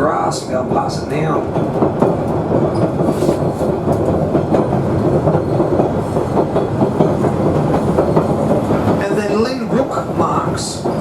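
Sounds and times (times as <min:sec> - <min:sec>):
railcar rumbling in motion: 0:00.0 - 0:11.0.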